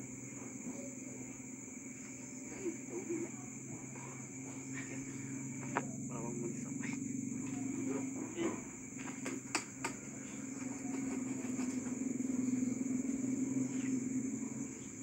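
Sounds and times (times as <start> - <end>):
crickets trilling: 0.0 - 15.0
engine humming: 2.5 - 15.0.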